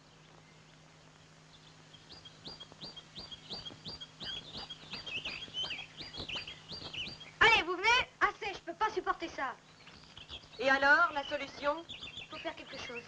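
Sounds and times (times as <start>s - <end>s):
bird chirping: 0.0s - 8.0s, 9.0s - 13.0s.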